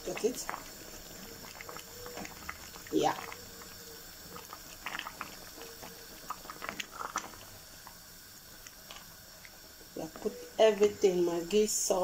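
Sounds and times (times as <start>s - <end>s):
wooden spoon stirring soup: 0.0s - 11.1s.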